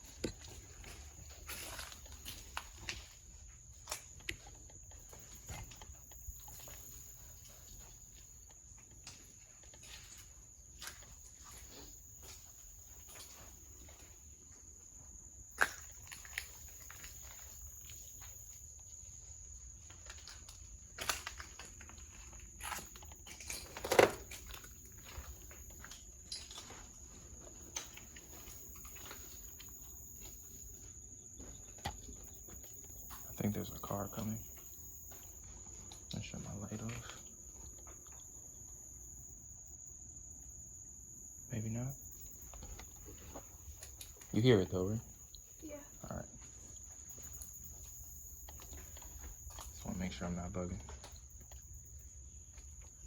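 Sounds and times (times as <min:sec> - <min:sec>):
high-pitched insect drone: 0:00.0 - 0:20.8, 0:24.2 - 0:53.0
footsteps and scuffs on debris: 0:00.0 - 0:39.4, 0:42.1 - 0:53.0.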